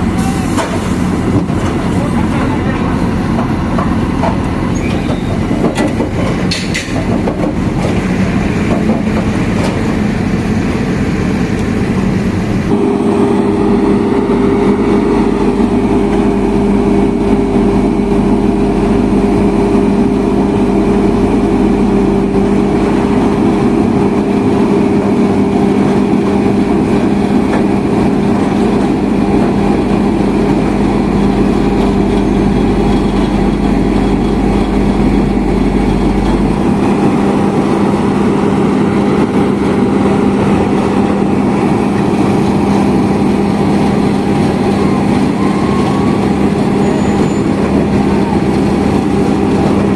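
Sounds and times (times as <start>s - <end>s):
deep rumble: 0.0s - 49.9s
diesel paving machinery running: 0.0s - 49.9s.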